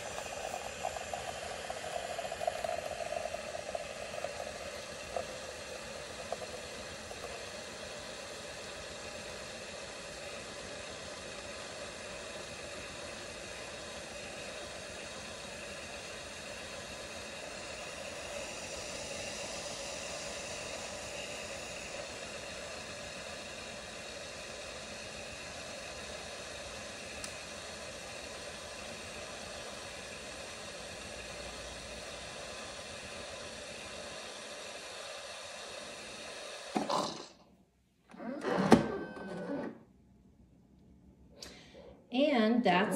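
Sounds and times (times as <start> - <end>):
espresso machine steaming milk: 0.0 - 37.4, 38.2 - 39.8.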